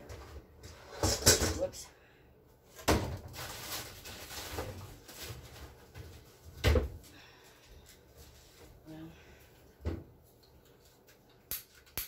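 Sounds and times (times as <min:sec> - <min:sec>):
objects clattering and shuffling: 0:00.0 - 0:01.9, 0:02.6 - 0:11.4.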